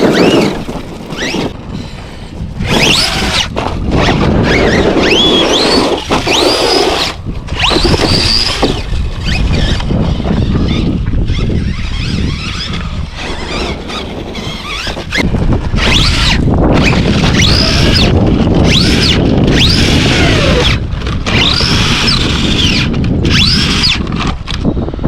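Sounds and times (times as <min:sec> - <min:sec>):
electric motor whining: 0:00.0 - 0:24.6
wind on microphone: 0:00.0 - 0:25.0.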